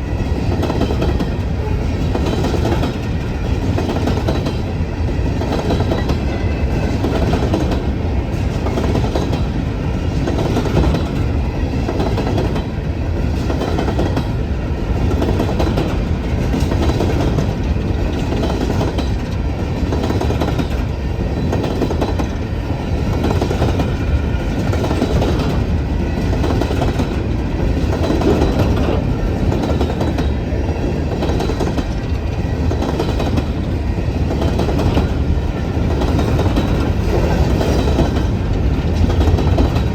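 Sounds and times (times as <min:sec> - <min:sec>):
freight train wheels rumbling: 0:00.0 - 0:39.9
rhythmic clickety-clack: 0:00.2 - 0:39.9.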